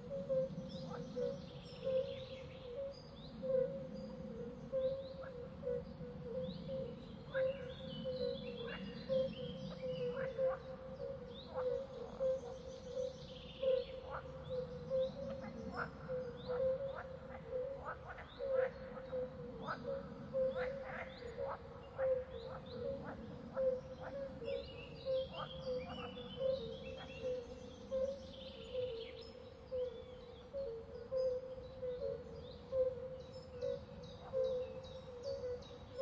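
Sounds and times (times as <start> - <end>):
birds chirping and calling: 6.4 - 36.0.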